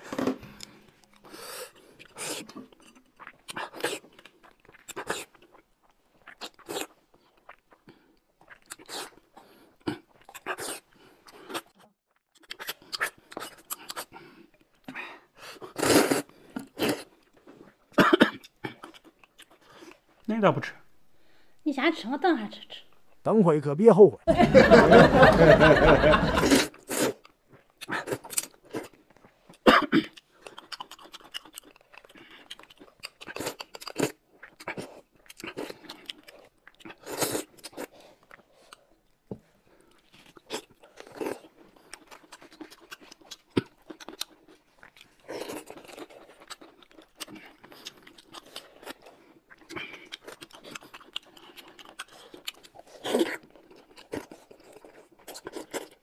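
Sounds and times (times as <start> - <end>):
noodles slurped and chewed: 0.0 - 20.3, 25.8 - 56.0.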